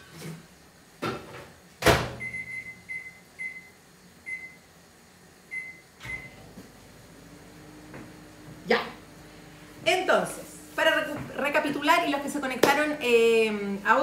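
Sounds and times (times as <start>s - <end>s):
microwave oven humming: 0.5s - 14.0s.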